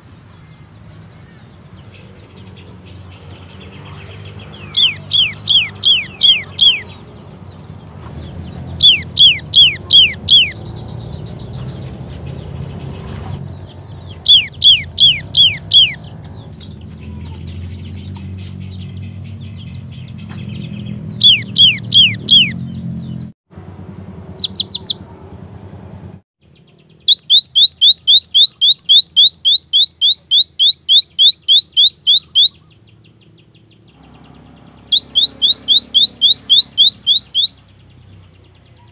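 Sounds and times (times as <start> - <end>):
bird singing whistled notes: 0.0 - 23.3, 24.4 - 25.0, 26.4 - 38.9.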